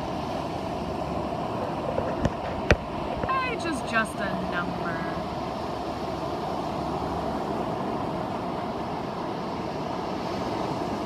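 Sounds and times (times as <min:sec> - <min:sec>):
surf rushing: 0:00.0 - 0:11.0
wind: 0:00.0 - 0:11.0.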